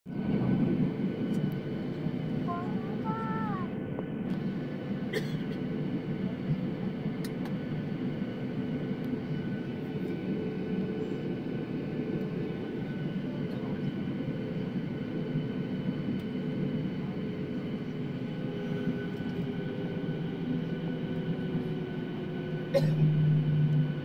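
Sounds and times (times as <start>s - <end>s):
jet engines humming and whining: 0.1s - 24.0s.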